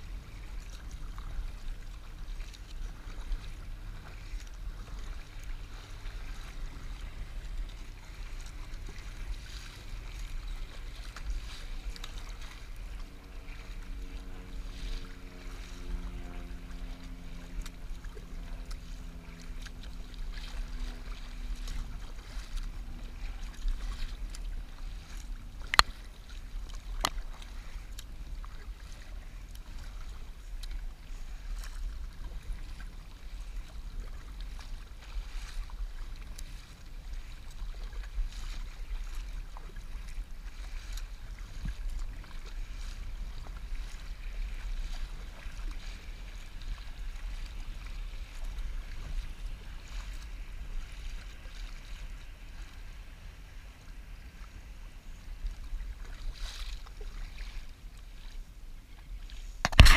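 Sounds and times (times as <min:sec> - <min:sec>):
paddle blades splashing: 0:00.0 - 0:59.9
water slapping against hull: 0:00.0 - 0:59.9
wind on microphone: 0:00.0 - 0:59.9.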